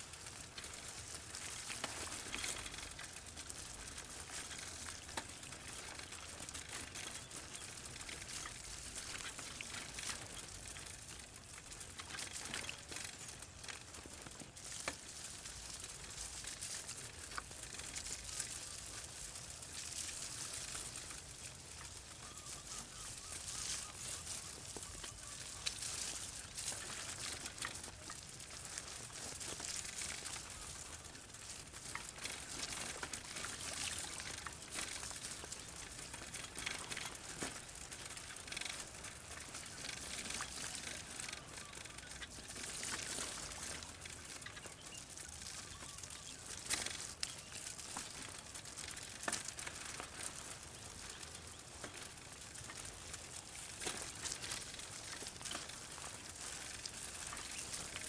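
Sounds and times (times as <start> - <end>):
small clicks and crunches: 0.0 - 58.0.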